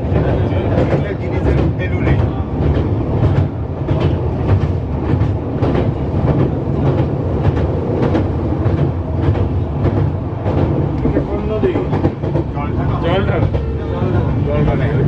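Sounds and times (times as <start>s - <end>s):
train coach rumble: 0.0s - 15.0s.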